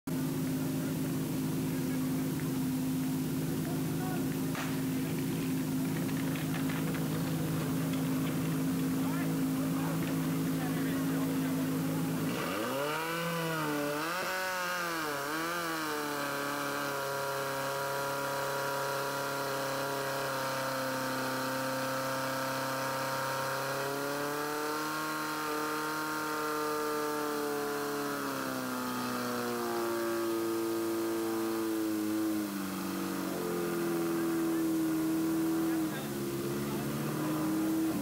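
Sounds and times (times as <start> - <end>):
pump engine running at high revs: 0.1 - 38.0.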